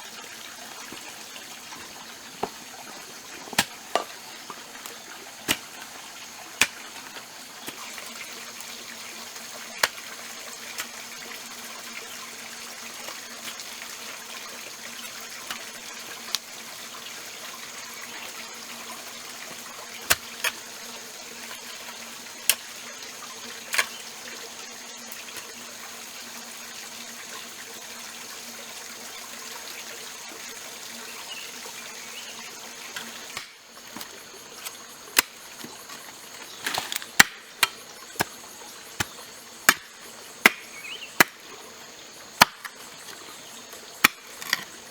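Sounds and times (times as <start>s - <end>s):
faint insect hum: 0.0s - 44.9s
trickling water: 0.0s - 44.9s.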